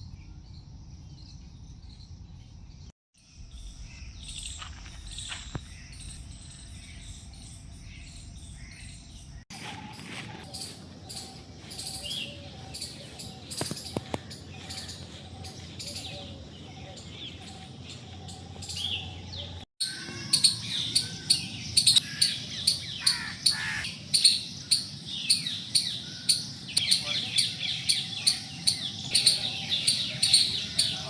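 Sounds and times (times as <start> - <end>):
birds chirping and calling: 1.1 - 31.0
falling bird calls: 3.5 - 31.0.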